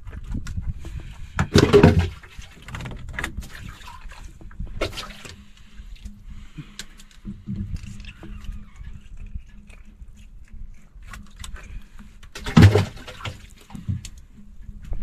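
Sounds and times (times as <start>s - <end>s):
water sloshing against boat hull: 0.0s - 15.0s.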